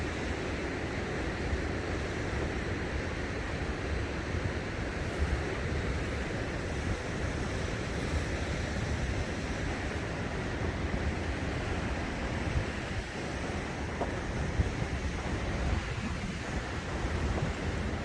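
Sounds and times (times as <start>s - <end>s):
ocean surf washing: 0.1s - 18.0s
wind buffeting microphone: 1.3s - 18.0s.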